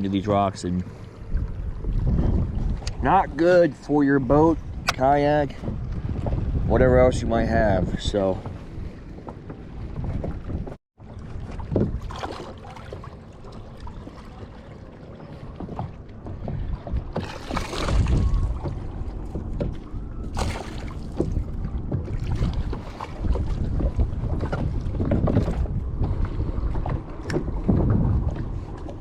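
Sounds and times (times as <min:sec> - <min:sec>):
water lapping against a hull: 0:00.0 - 0:29.0
wind on the microphone: 0:00.0 - 0:29.0.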